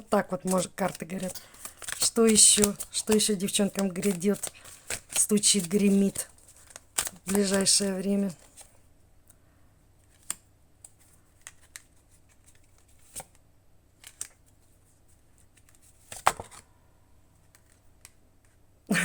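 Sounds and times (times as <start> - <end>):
cards being handled: 0.0 - 8.8, 10.0 - 13.4, 14.0 - 16.6, 17.4 - 18.2.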